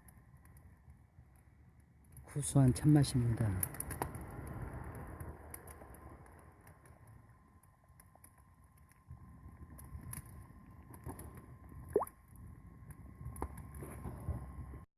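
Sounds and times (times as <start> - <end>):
low rumbling background noise: 0.0 - 14.9.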